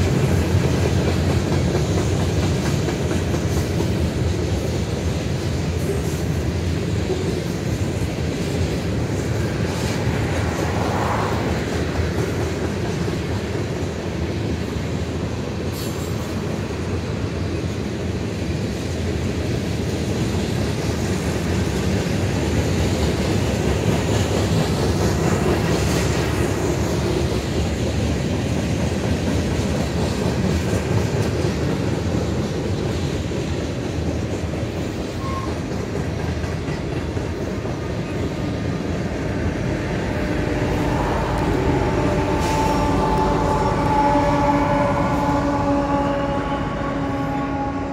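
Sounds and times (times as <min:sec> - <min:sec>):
diesel locomotive engine: 0:00.0 - 0:47.9
train wheels rumbling on rails: 0:00.0 - 0:47.9.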